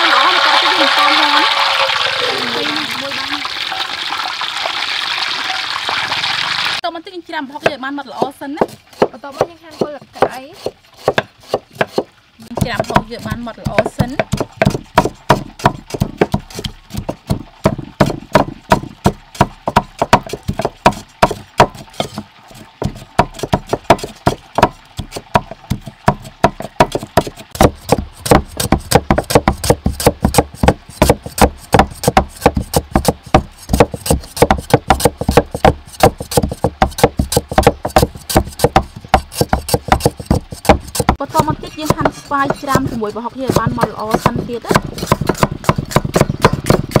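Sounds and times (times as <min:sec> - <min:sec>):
cleaver chopping on wooden block: 0:07.6 - 0:22.2, 0:22.8 - 0:47.0.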